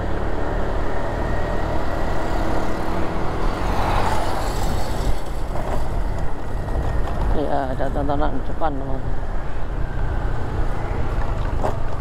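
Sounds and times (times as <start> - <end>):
wind rumble: 1.7 - 12.0.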